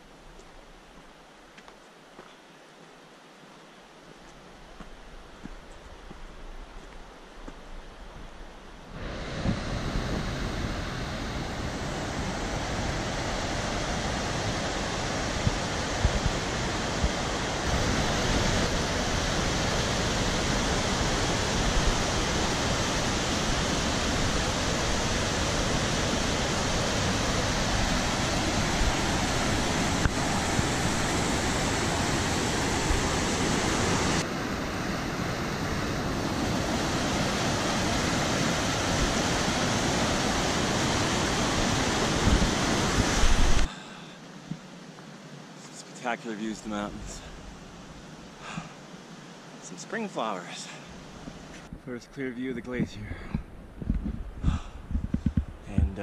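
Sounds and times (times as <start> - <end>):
river rushing over boulders: 0.0 - 51.7.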